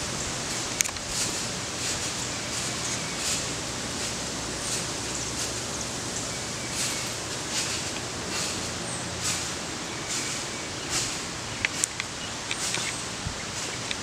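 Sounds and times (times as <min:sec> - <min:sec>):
leaves rustling: 0:00.0 - 0:14.0.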